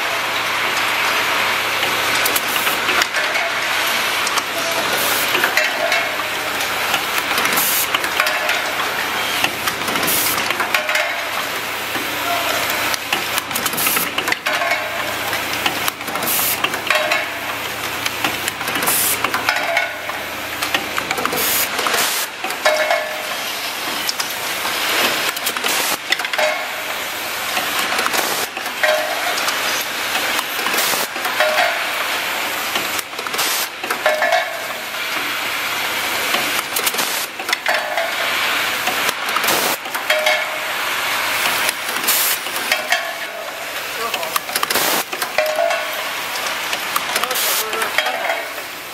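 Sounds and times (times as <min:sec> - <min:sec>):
pneumatic cylinders clicking: 0:01.8 - 0:48.9.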